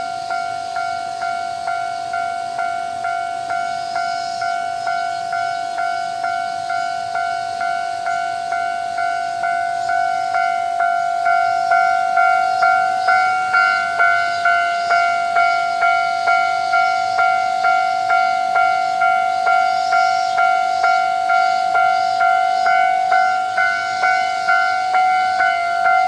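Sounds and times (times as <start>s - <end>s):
level crossing warning bell ringing: 0.0s - 26.0s.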